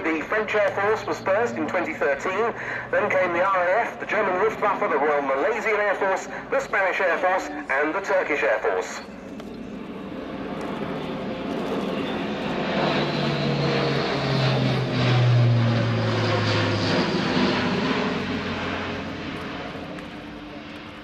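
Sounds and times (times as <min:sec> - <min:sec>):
propeller aircraft passing by: 0:00.0 - 0:21.0.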